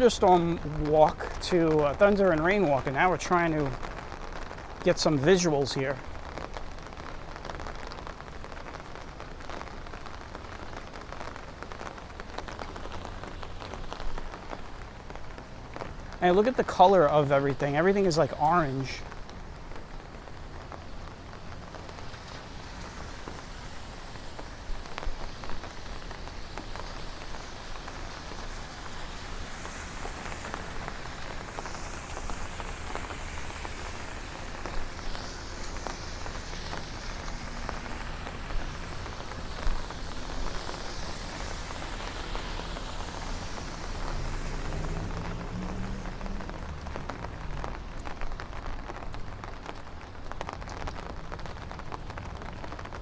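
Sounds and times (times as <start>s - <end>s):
rain falling on street: 0.0s - 53.0s.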